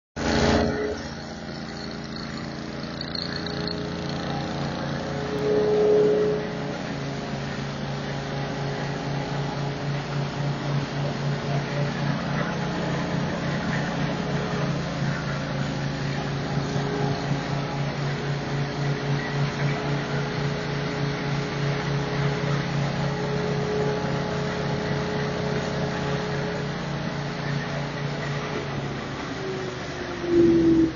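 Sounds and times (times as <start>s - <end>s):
engine hum: 0.2s - 30.9s
hammer mill mechanical drone: 0.2s - 30.9s
steady whine: 0.2s - 30.9s.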